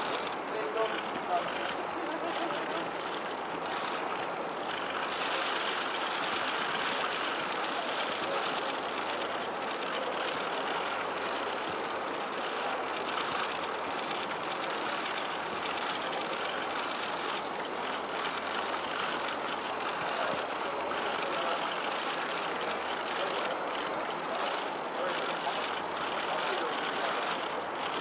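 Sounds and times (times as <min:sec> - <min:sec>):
outdoor background rush: 0:00.0 - 0:28.0.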